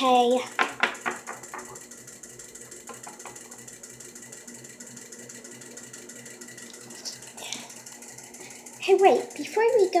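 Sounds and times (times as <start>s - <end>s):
low mechanical hum pulsing: 0.0s - 10.0s.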